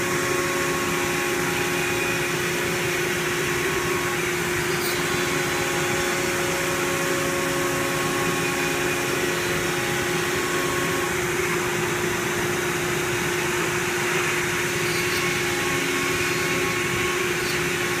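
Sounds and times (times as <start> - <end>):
router spindle humming: 0.0 - 18.0.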